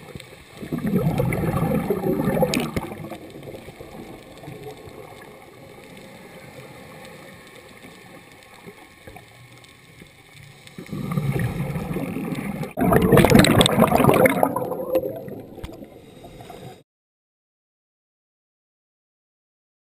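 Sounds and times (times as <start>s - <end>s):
underwater exhaled bubbles: 0.0s - 16.8s.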